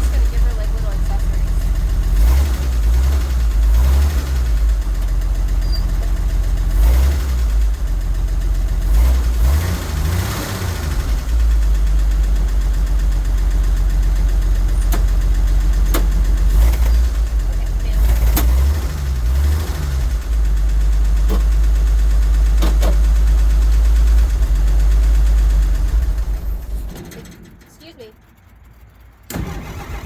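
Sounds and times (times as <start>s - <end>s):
car engine surging and idling: 0.0s - 30.0s.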